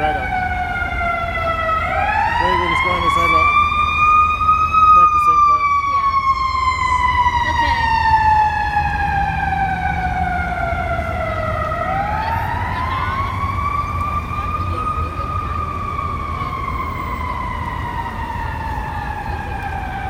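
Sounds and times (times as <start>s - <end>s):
emergency siren wailing: 0.0s - 20.0s.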